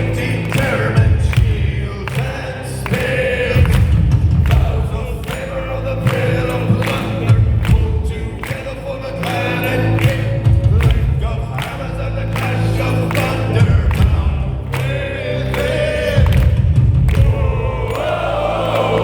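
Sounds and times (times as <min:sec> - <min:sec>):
crowd singing along: 0:00.0 - 0:19.0
pounding drums: 0:00.0 - 0:19.0.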